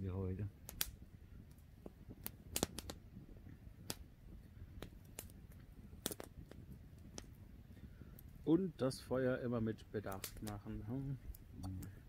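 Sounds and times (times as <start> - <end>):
campfire crackling and popping: 0.0 - 12.0
faint low rumble: 0.0 - 12.0.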